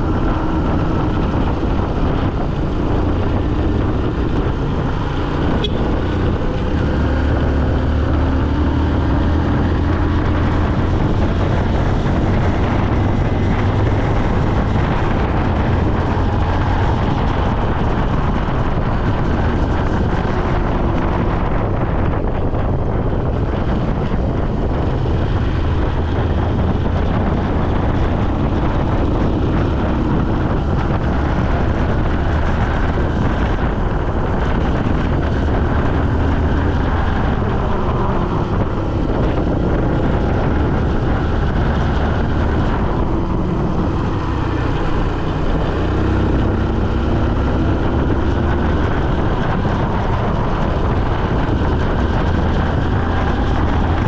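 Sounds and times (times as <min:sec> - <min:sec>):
vehicle driving on a road: 0:00.0 - 0:54.0
wind noise on microphone: 0:00.0 - 0:54.0.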